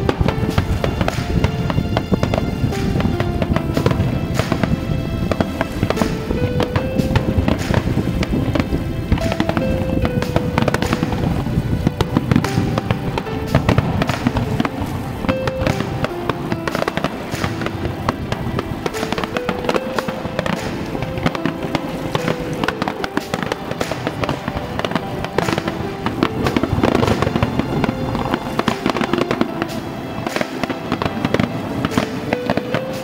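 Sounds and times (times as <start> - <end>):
fireworks bursting and crackling: 0.0 - 33.0
music playing: 0.0 - 33.0.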